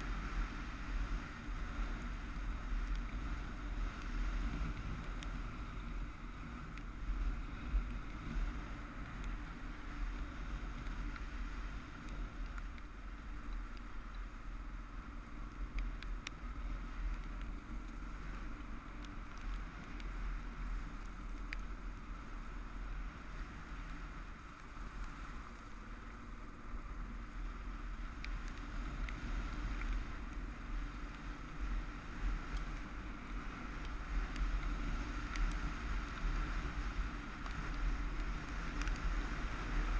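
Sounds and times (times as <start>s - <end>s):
faint ticks: 0.0s - 39.9s
wind on microphone: 0.0s - 39.9s.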